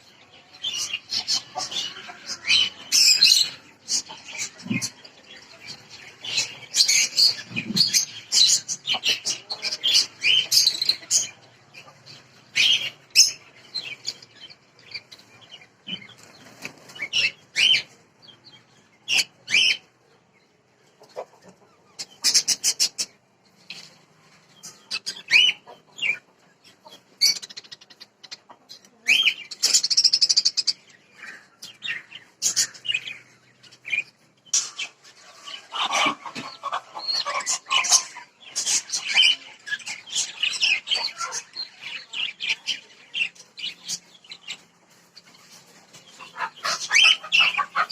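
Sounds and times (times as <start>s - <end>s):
caged birds chirping and squawking: 0.0s - 47.9s.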